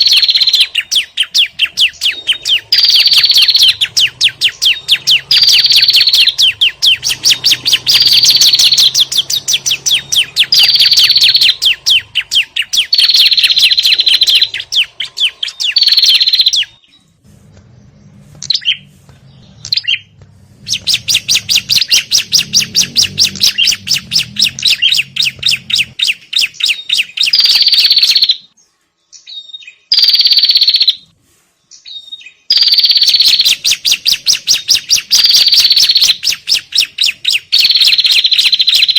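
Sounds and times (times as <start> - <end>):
bird chattering trills: 0.0 - 17.0, 17.8 - 28.5, 32.5 - 38.9.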